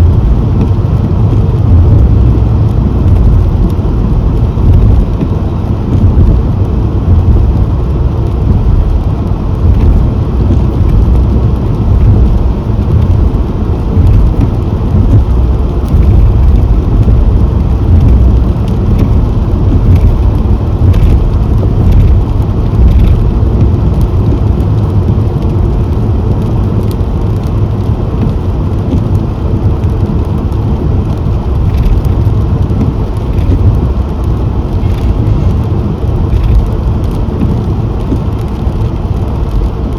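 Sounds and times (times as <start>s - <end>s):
car road and engine noise: 0.0s - 39.9s
raindrops ticking: 0.0s - 39.9s.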